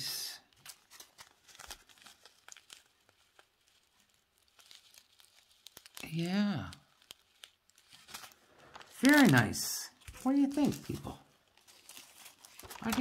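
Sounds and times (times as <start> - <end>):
plastic bag crinkling: 0.5 - 13.0.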